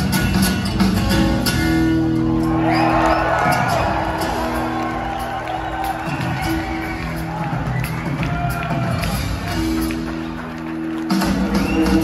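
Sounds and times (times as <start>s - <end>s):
drums: 0.0s - 12.0s
guitar: 0.0s - 12.0s.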